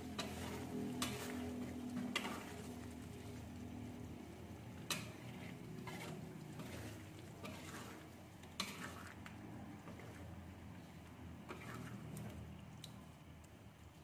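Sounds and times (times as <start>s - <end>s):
spoon stirring thick sauce: 0.0s - 3.5s, 4.8s - 13.1s.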